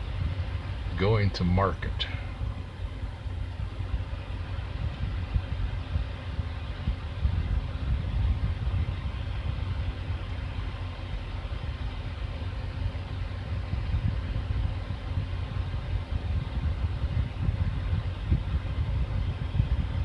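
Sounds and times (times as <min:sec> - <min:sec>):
faint steady hum: 0:00.0 - 0:20.0
vehicle engine idling: 0:00.0 - 0:20.0.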